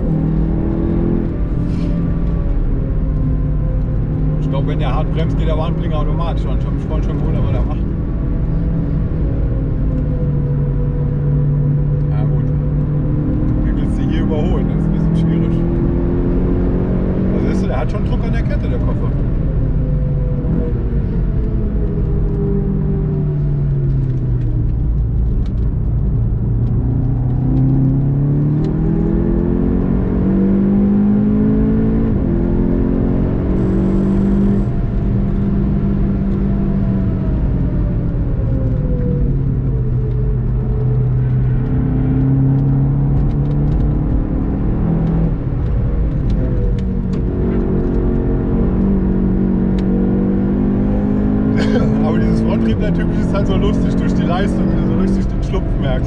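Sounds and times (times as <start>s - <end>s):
car engine revving while driving: 0.0s - 56.0s
low road rumble: 0.0s - 56.0s.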